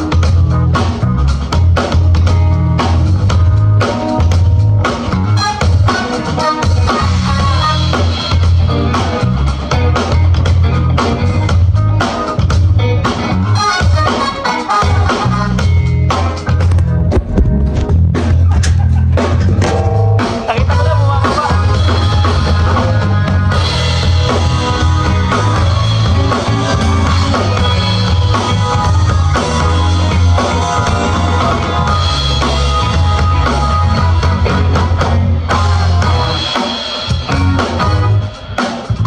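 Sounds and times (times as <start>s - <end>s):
bass guitar: 0.0s - 39.0s
drum kit: 0.0s - 39.0s
electric guitar: 0.0s - 39.0s
live band through speakers: 0.0s - 39.0s.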